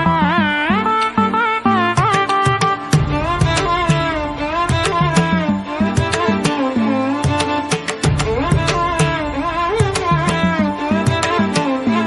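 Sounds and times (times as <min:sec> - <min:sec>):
drum-like strikes: 0:02.1 - 0:11.8.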